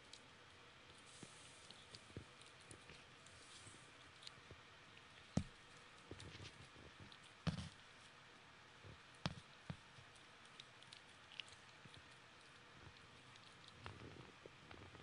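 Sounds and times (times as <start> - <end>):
puppy chewing treat: 0.9 - 8.1, 9.2 - 15.0.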